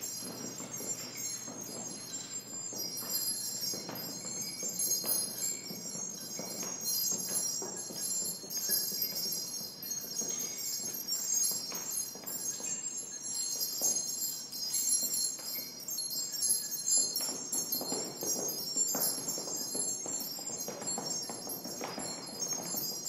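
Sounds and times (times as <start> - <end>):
soft taps and rustles: 0.0 - 14.3, 16.9 - 23.0
metallic jingling and chiming: 0.0 - 23.0.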